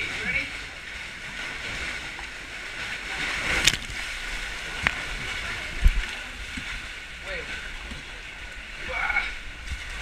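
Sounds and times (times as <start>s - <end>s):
sea water surging against rock: 0.0s - 10.0s.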